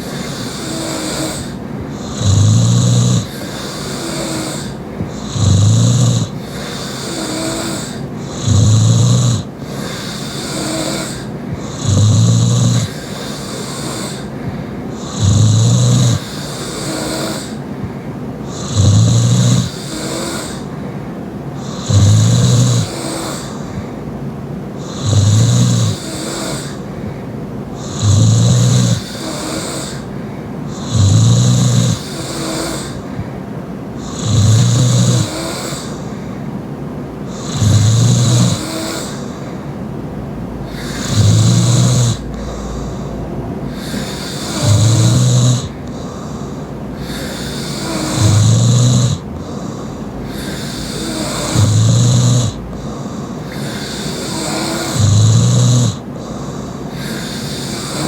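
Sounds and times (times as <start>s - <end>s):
woman snoring loudly: 0.0s - 17.7s, 18.4s - 20.8s, 21.6s - 23.8s, 24.8s - 27.0s, 27.8s - 33.2s, 34.0s - 36.1s, 37.3s - 39.5s, 40.6s - 58.0s
quiet breathing: 0.0s - 58.0s.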